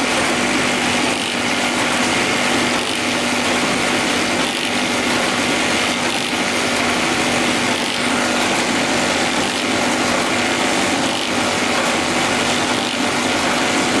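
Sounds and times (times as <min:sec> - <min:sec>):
constant machine hum: 0:00.0 - 0:14.0
machine mechanical clatter: 0:00.0 - 0:14.0.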